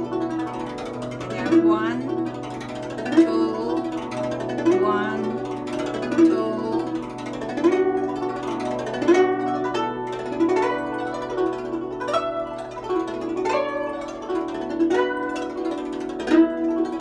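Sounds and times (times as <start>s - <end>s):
plucked zither notes: 0.0s - 17.0s.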